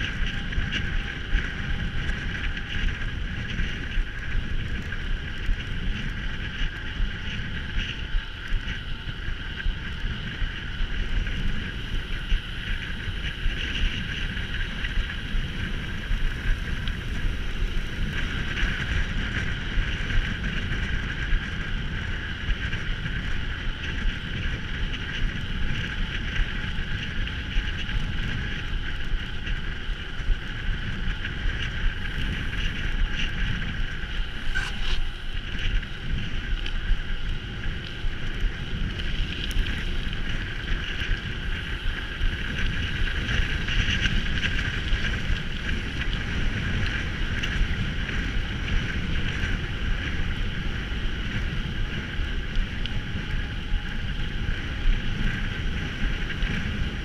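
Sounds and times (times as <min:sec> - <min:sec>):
bike rattling and knocking: 0:00.0 - 0:57.0
wind rumble on microphone: 0:00.0 - 0:57.0.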